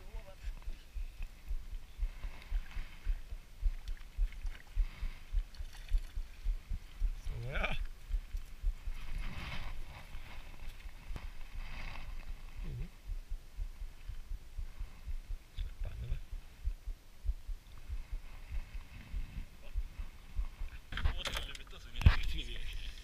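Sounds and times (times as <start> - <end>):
wind and handling thuds on microphone: 0.4 - 22.6.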